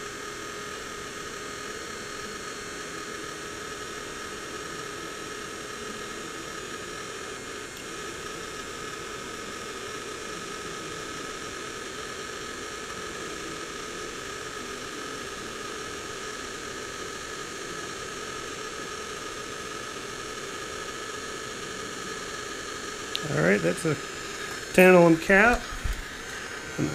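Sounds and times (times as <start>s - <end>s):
heat gun fan whirring: 0.0s - 26.9s.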